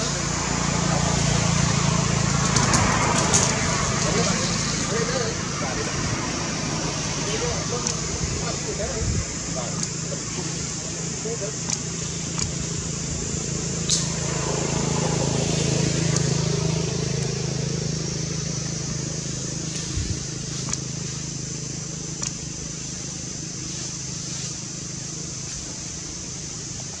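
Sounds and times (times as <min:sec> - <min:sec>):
engine humming: 0:00.0 - 0:27.0
high hiss: 0:00.0 - 0:27.0.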